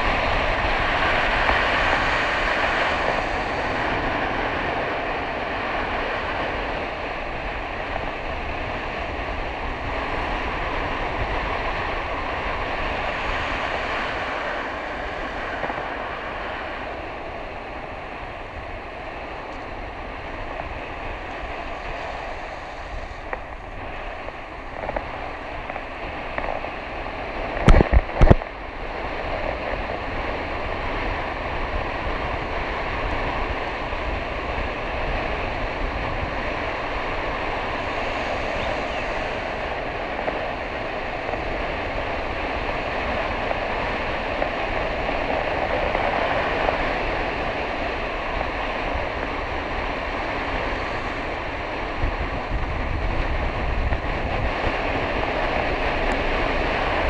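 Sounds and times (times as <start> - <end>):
skate wheels rolling on wet asphalt: 0.0 - 57.0
wind on microphone: 0.0 - 57.0.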